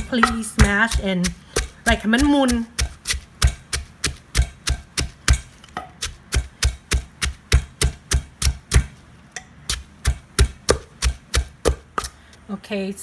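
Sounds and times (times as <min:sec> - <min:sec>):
pestle pounding in mortar: 0:00.0 - 0:09.0, 0:09.6 - 0:12.2.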